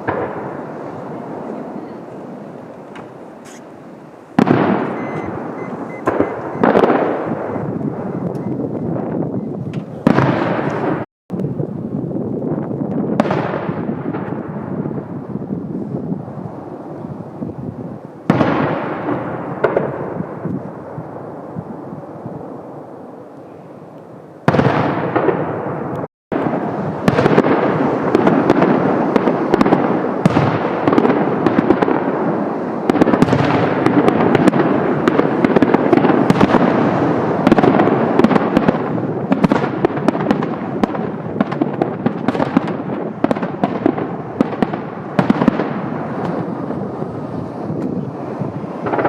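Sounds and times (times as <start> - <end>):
fireworks bursting and crackling: 0.0 - 49.0.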